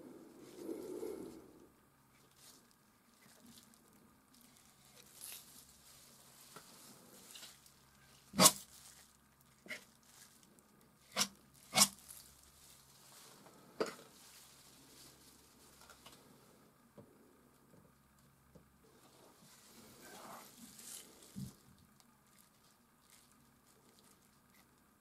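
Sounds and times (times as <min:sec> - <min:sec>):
faint scraping and rustling: 0:00.0 - 0:18.0, 0:18.8 - 0:25.0.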